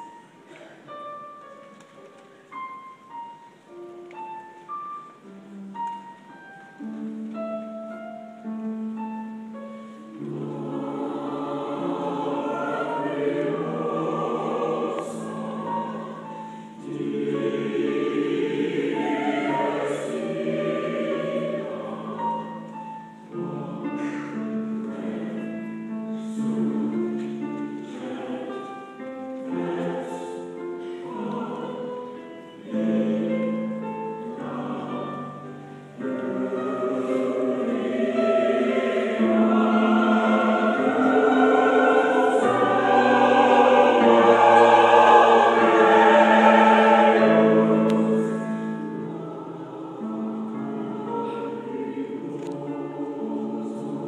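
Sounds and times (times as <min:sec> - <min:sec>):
piano accompaniment: 0:00.0 - 0:54.0
mixed choir singing: 0:10.1 - 0:54.0.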